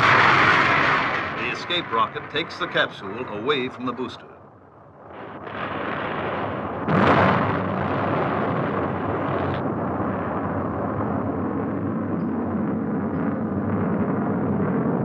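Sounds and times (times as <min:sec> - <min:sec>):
rocket explosion blast: 0:00.0 - 0:15.0
rocket rumbling roar: 0:00.0 - 0:15.0.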